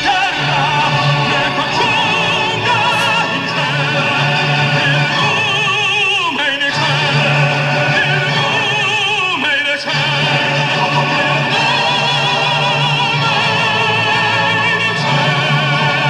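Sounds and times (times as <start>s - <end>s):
operatic singing: 0.0s - 16.0s.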